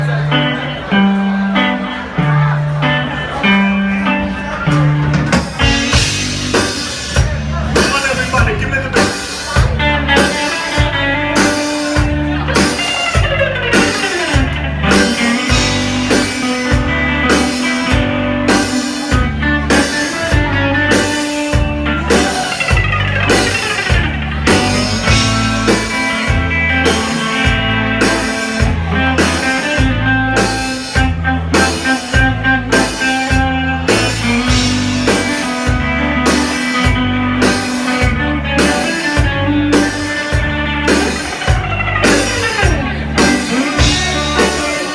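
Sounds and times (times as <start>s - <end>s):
held bass notes: 0.0s - 44.9s
drum kit beat: 4.1s - 44.9s.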